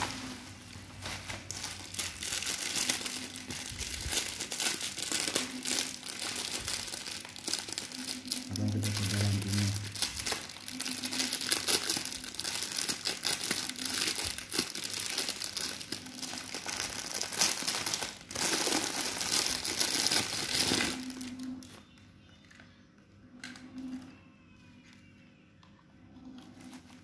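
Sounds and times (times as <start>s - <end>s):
plastic wrapping crinkling: 0.0s - 22.6s.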